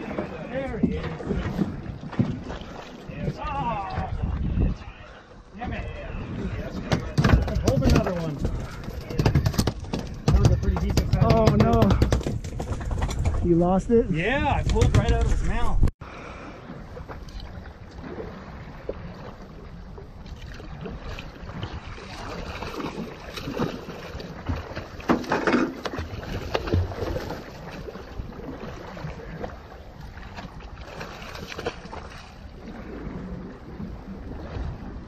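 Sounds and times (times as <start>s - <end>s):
water splashing against boat hull: 0.0s - 4.9s, 5.6s - 13.6s, 16.6s - 35.0s.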